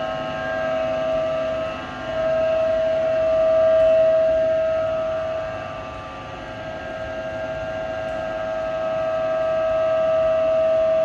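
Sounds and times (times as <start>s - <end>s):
machine mechanical whine: 0.0s - 11.0s.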